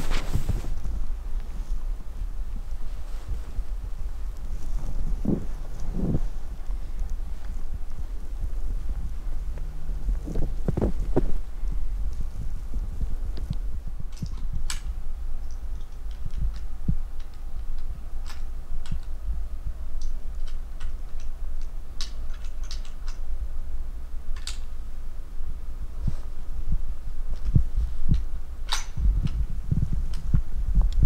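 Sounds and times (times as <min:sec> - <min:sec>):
wind buffeting microphone: 0:00.0 - 0:24.0, 0:25.4 - 0:31.0.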